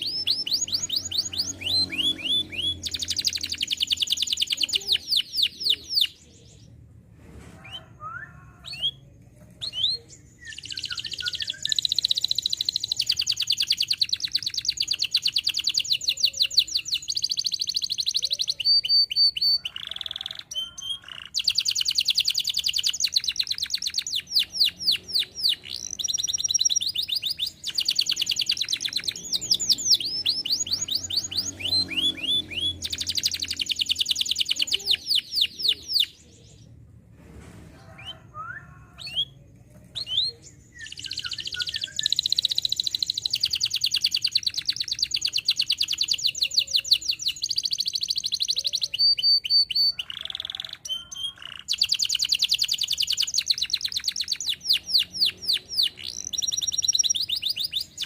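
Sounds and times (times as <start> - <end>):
canary singing: 0.0 - 6.9, 7.6 - 36.8, 37.9 - 58.0.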